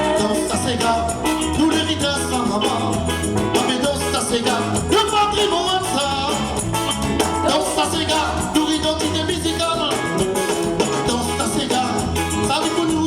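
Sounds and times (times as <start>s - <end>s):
person singing: 0.0s - 6.6s, 7.2s - 13.0s
live band playing dance song: 0.0s - 13.0s.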